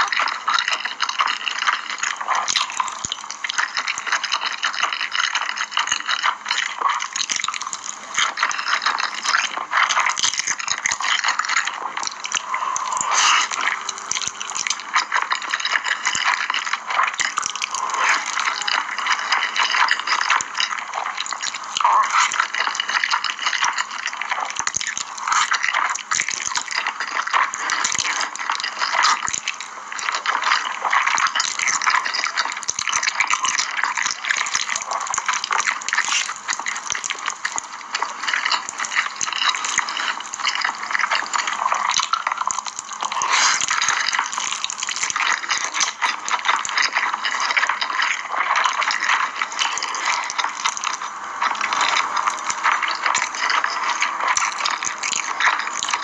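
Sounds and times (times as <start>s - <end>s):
slurping and chewing noodles: 0.0s - 56.0s.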